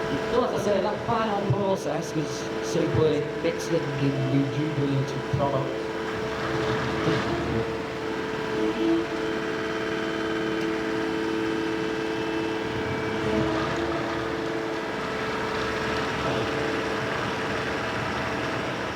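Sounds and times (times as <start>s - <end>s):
road machinery engine whining: 0.0s - 18.9s.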